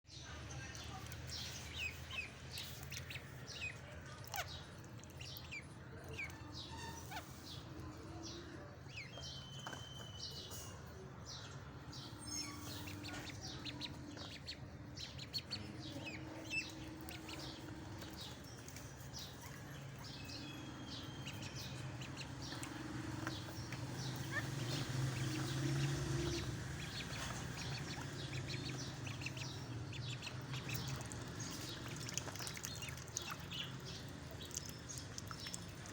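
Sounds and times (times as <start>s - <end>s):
ducklings peeping: 0.8s - 8.3s, 11.4s - 35.9s.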